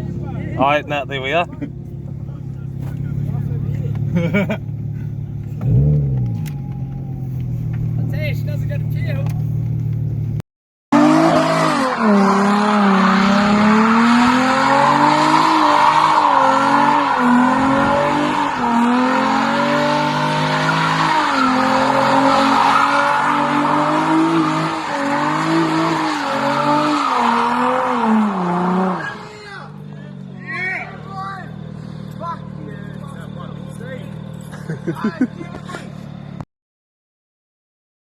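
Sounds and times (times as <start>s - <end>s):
car engine revving: 0.0s - 36.4s.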